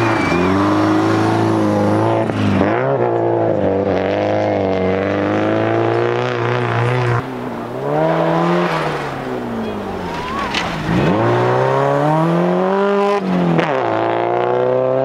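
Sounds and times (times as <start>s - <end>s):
rally car engine revving hard: 0.0s - 15.0s.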